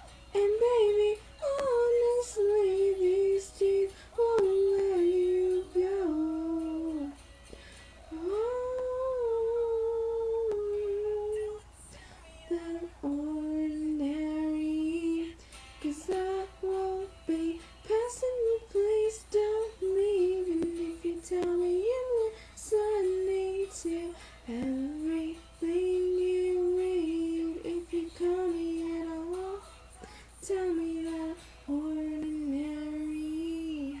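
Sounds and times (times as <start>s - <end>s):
woman singing: 0.0s - 34.0s.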